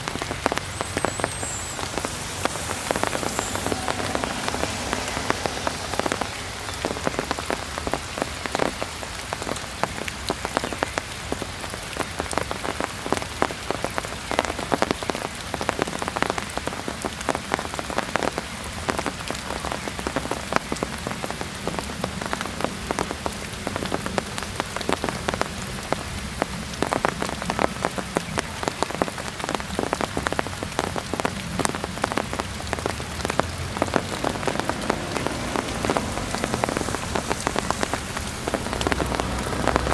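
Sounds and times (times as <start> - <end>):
heavy rain falling: 0.0 - 39.9
raindrops pattering: 0.0 - 39.9.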